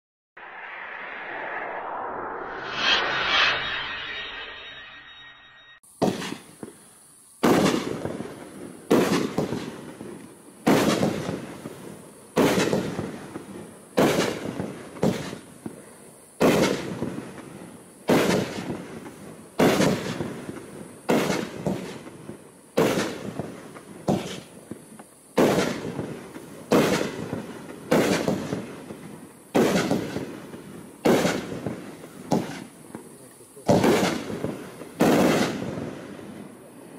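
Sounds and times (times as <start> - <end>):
fireworks bangs: 5.8 - 36.6.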